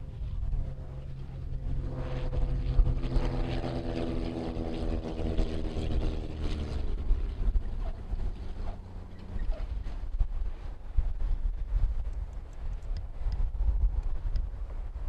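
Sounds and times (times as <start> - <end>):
low wind rumble: 0.0 - 15.0
propeller plane engines droning: 0.0 - 15.0.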